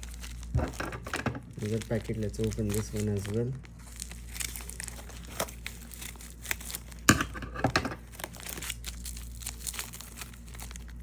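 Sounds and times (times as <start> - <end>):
bubble wrap crinkling and tearing: 0.0 - 11.0.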